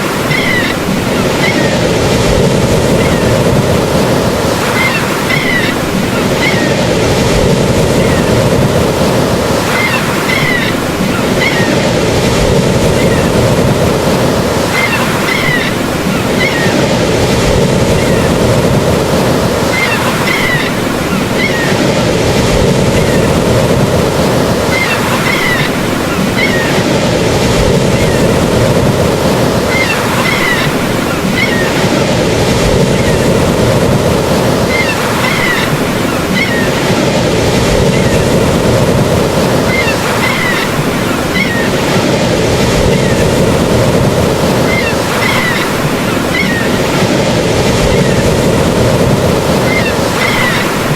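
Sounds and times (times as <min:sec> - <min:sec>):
ocean surf: 0:00.0 - 0:50.9.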